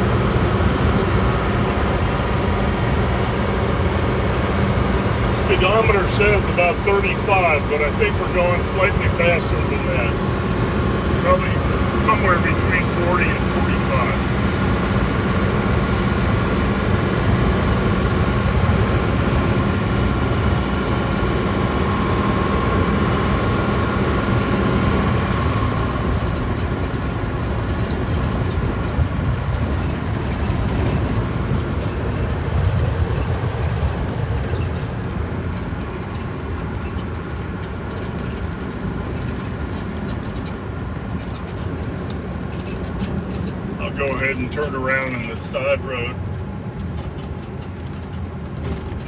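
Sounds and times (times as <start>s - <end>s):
engine and drivetrain drone: 0.0s - 49.0s
road and wind noise: 0.0s - 49.0s.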